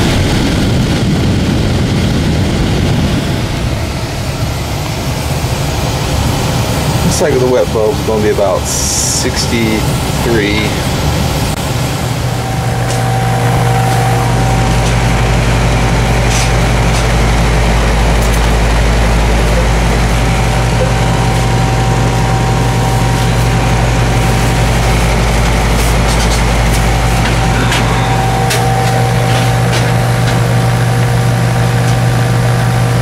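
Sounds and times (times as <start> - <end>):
fan air noise: 0.0 - 33.0
heat pump unit humming: 0.0 - 33.0.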